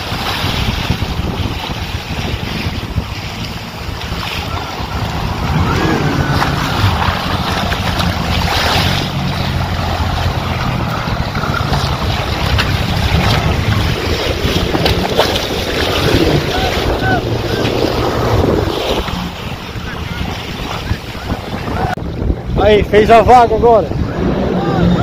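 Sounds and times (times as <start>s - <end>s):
boat engine running: 0.0s - 25.0s
waves sloshing and splashing: 0.0s - 25.0s
wind buffeting microphone: 0.0s - 25.0s.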